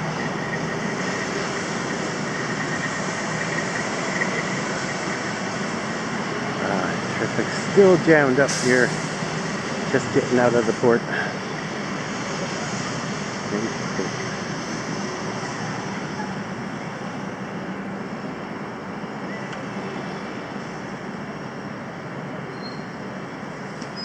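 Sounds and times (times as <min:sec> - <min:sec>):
slow street traffic: 0:00.0 - 0:24.0.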